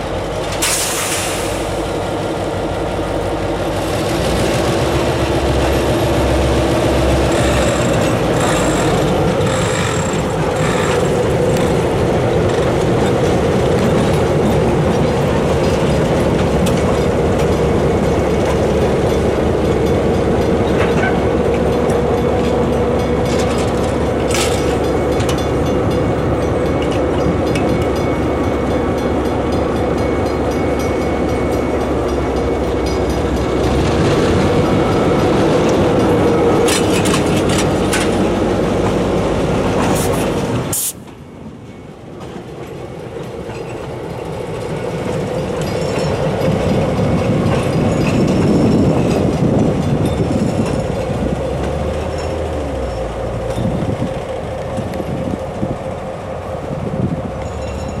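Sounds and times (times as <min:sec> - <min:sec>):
diesel locomotive engines running: 0:00.0 - 0:58.0
rumble of train wheels: 0:00.0 - 0:58.0.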